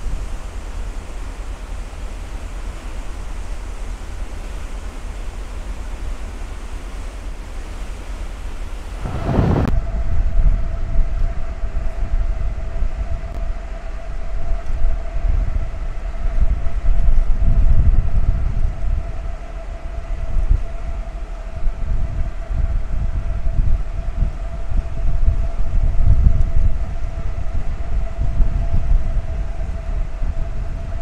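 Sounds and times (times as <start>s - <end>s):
steady mid-pitched hum: 0.0s - 31.0s
wind rumble on microphone: 0.0s - 31.0s.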